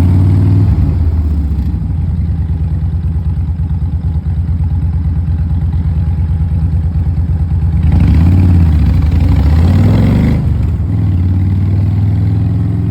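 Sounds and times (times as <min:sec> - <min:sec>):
motorcycle engine idling and revving: 0:00.0 - 0:12.9.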